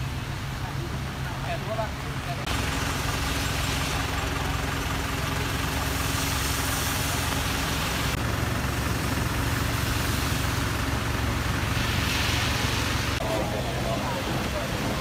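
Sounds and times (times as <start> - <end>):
engine idling: 0.0 - 15.0
rain hissing: 0.0 - 15.0.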